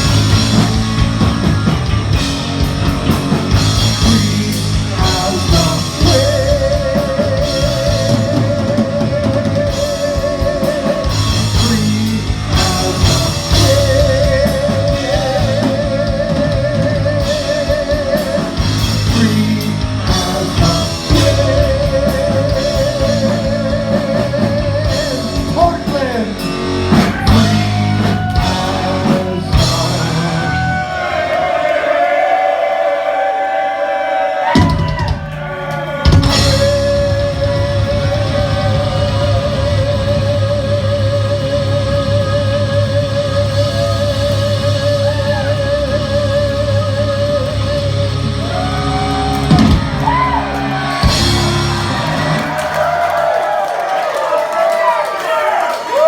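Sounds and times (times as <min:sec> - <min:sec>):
distorted electric guitar: 0:00.0 - 0:31.0, 0:34.6 - 0:53.0
drum kit: 0:00.0 - 0:31.8, 0:34.4 - 0:54.8.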